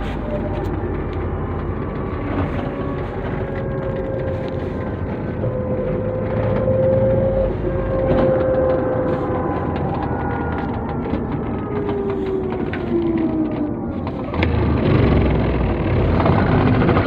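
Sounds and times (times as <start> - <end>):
van cabin road drone: 0.0 - 17.0.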